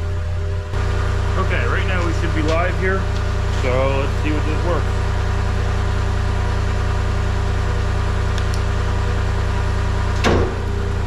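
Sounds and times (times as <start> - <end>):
skid steer engine idling: 0.0 - 11.0.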